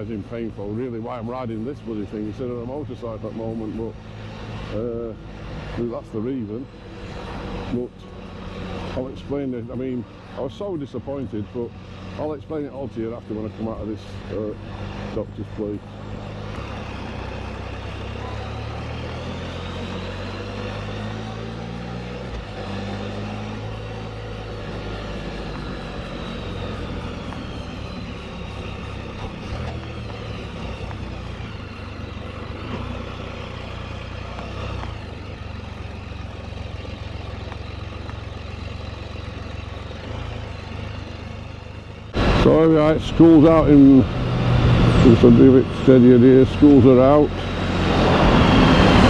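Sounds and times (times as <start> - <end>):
road and wind noise: 0.0 - 49.0
three-wheeler engine running: 0.0 - 49.0.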